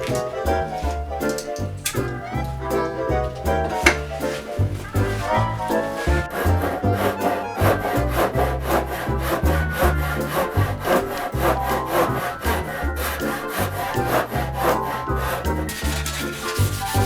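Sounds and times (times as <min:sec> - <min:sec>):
background music: 0:00.0 - 0:17.0
hand saw cutting wood: 0:00.0 - 0:17.0.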